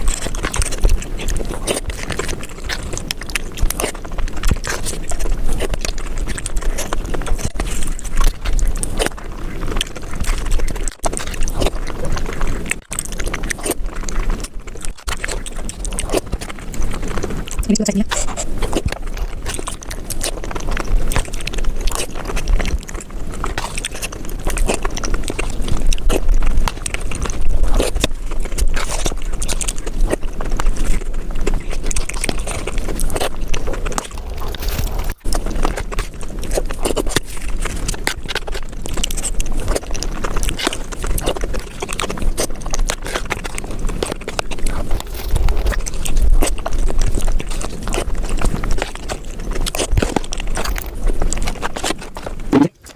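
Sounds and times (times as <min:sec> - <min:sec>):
crunching and chewing: 0:00.0 - 0:52.9.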